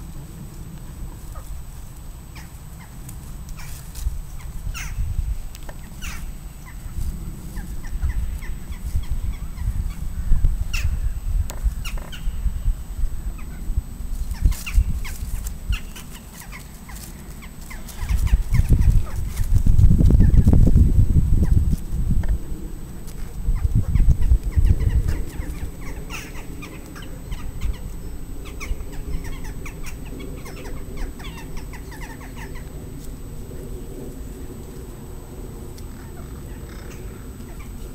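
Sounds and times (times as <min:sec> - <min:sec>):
low rumble: 0:00.0 - 0:37.9
birds chirping: 0:00.8 - 0:19.6, 0:23.2 - 0:37.9.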